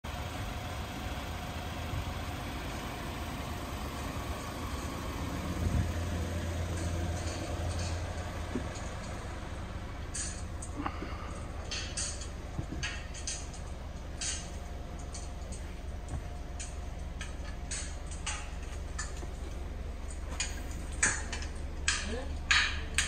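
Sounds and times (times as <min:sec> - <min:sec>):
van engine idling: 0:00.0 - 0:23.0.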